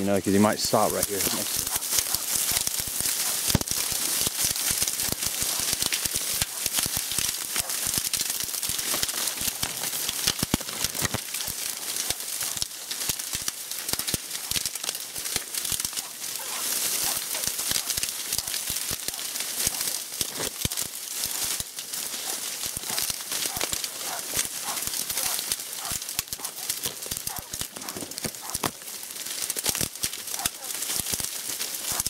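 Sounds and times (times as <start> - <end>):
dry reeds rustling and snapping: 0.0 - 32.0.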